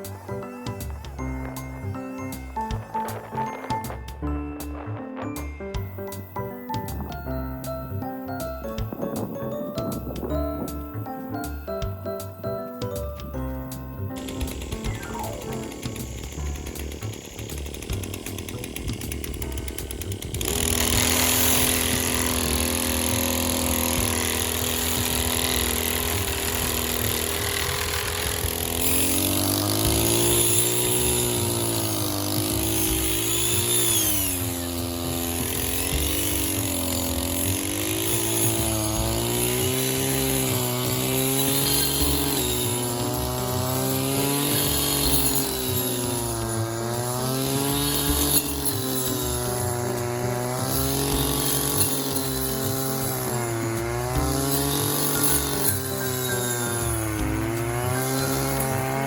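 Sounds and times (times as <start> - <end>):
music: 0.0 - 59.0
small engine running: 0.0 - 59.0.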